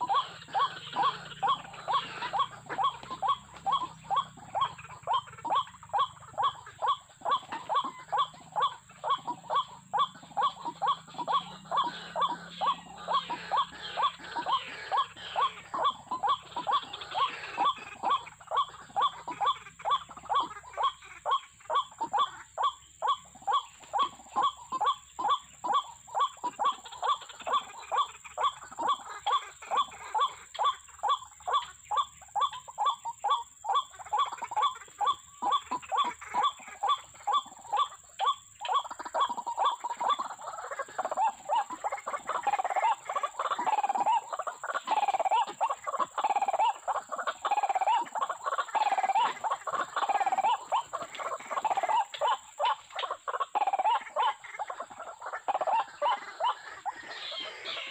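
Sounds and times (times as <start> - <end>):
waterhen calling: 0.0 - 57.9.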